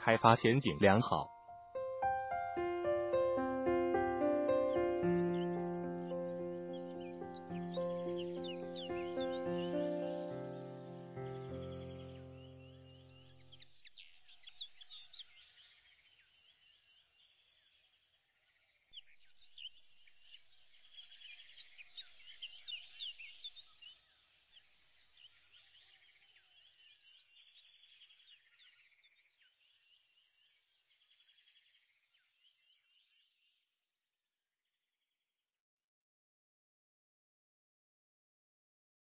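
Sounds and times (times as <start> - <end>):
small birds chirping: 0.0 - 17.8, 19.0 - 33.6.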